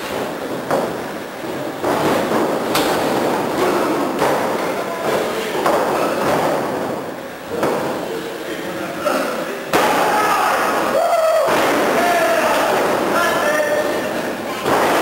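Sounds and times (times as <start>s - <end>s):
rumbling background noise: 0.0s - 15.0s.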